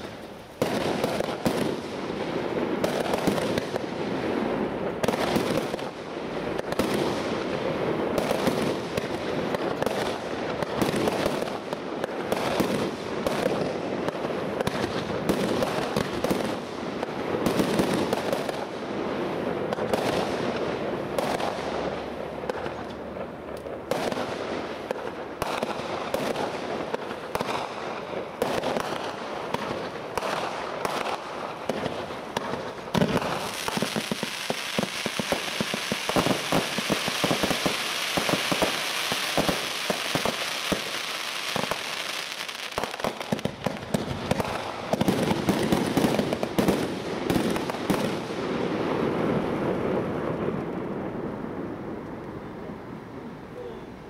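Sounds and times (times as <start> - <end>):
fireworks bangs and crackle: 0.0 - 53.0.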